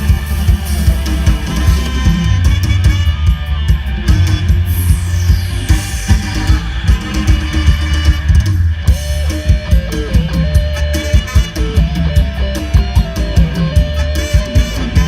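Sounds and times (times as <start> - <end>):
drum kit steady beat: 0.0 - 15.0
guitar melody: 0.0 - 15.0.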